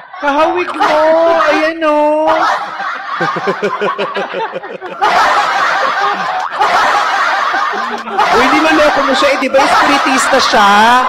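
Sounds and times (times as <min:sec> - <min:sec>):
people laughing: 0:00.2 - 0:11.0.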